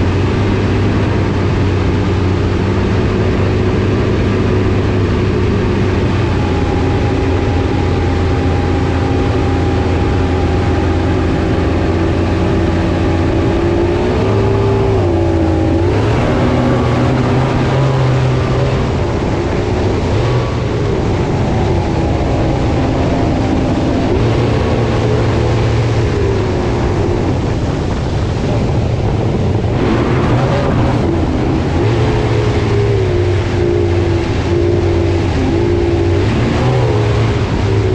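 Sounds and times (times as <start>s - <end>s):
boat engine running: 0.0s - 37.9s
steady rush of noise: 0.0s - 37.9s.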